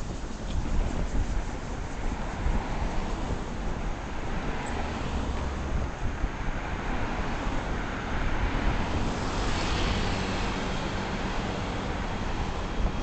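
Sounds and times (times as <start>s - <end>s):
vehicle road rumble: 0.0s - 13.0s
wind buffeting microphone: 0.0s - 13.0s.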